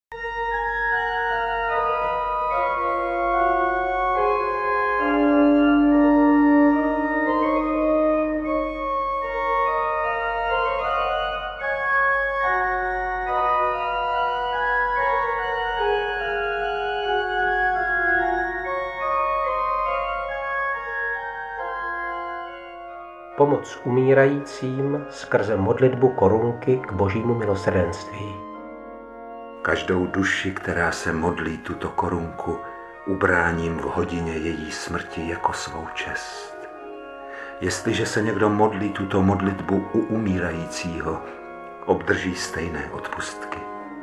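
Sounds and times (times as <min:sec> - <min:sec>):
slow organ music: 0:00.1 - 0:44.0.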